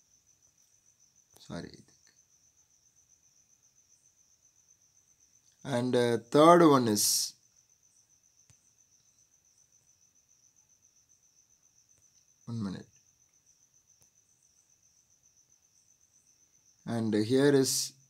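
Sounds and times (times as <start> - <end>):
cricket trill: 0.0 - 18.0.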